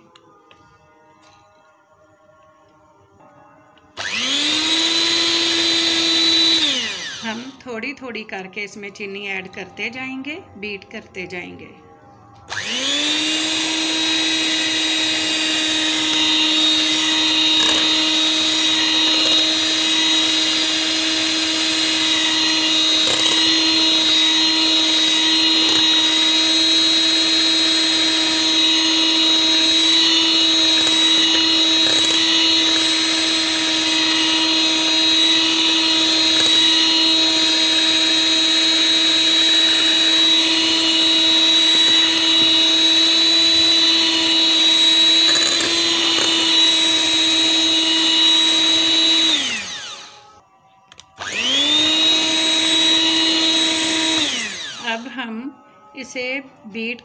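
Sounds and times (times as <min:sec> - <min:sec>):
electric hand mixer whining: 0:04.0 - 0:07.7, 0:12.5 - 0:50.4, 0:51.2 - 0:55.2.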